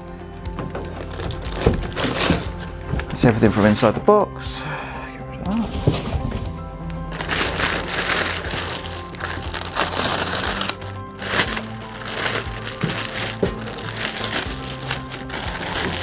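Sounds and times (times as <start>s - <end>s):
background music: 0.0s - 16.0s
plastic bag rustling and crinkling: 0.5s - 4.1s, 5.7s - 16.0s.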